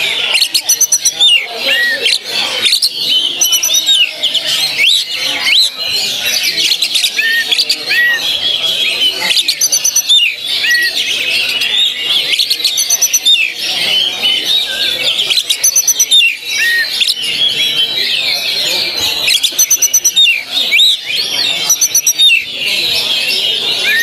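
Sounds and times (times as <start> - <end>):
bird singing: 0.0 - 24.0
high rattling bird trills: 0.0 - 24.0.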